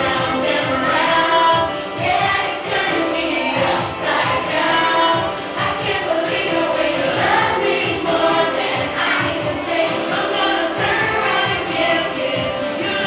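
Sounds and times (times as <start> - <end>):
choir singing: 0.0 - 13.0
instrumental music accompaniment: 0.0 - 13.0.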